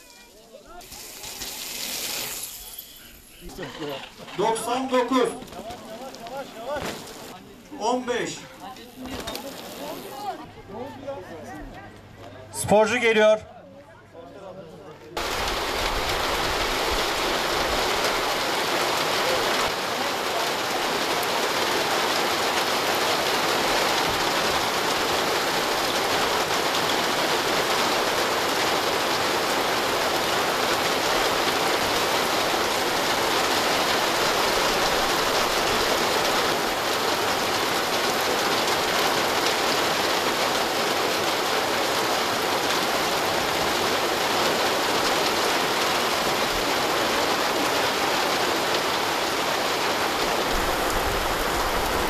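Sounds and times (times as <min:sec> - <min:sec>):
heavy rain on wet ground: 0:00.0 - 0:10.4, 0:15.2 - 0:52.0.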